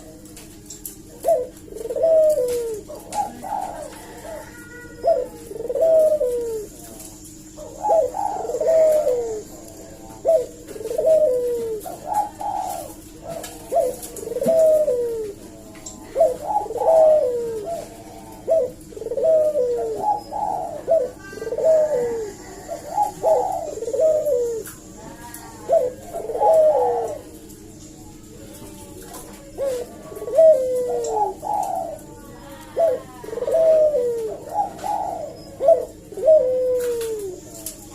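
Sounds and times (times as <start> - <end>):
dove cooing: 0.0 - 37.9
faint steady hum: 0.0 - 37.9.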